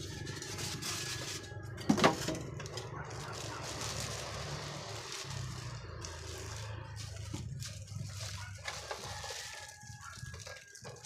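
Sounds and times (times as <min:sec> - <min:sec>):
plastic wrapping rustling: 0:00.0 - 0:11.0
styrofoam creaking: 0:00.0 - 0:11.0.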